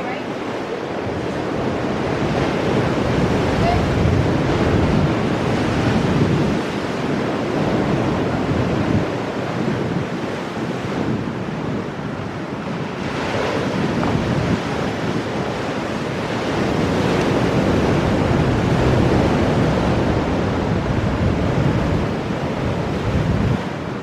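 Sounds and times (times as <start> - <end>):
waves crashing against rocks: 0.0 - 24.0
wind buffeting microphone: 0.0 - 24.0.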